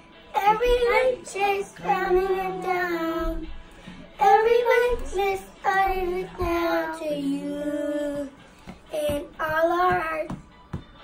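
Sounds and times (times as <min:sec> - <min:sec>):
child singing: 0:00.3 - 0:03.5, 0:04.2 - 0:10.5.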